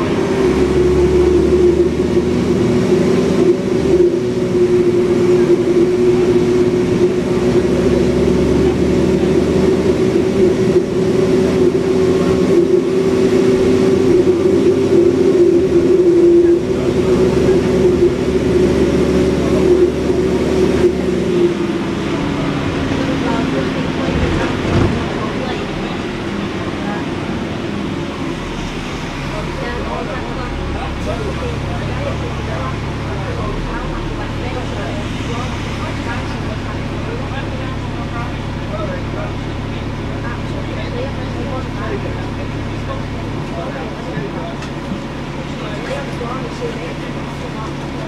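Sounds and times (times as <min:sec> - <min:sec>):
bus diesel engine running: 0:00.0 - 0:48.0.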